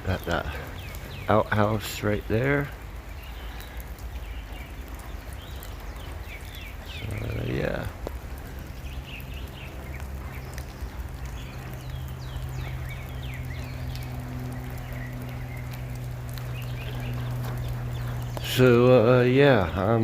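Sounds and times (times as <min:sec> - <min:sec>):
light rain hissing: 0:00.0 - 0:20.0
small birds chirping: 0:00.0 - 0:20.0
low hum: 0:02.7 - 0:20.0.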